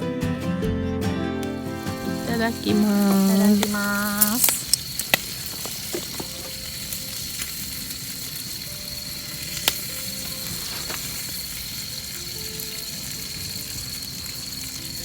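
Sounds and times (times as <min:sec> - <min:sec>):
steady sizzling hiss: 0:00.0 - 0:15.0.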